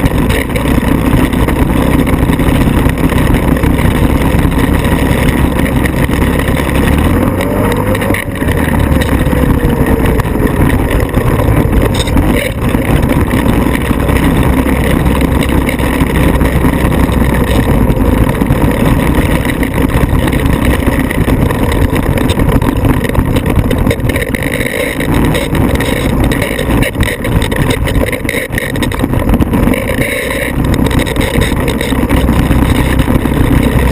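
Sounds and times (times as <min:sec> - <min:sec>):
vehicle engine running loudly: 0:00.0 - 0:33.9.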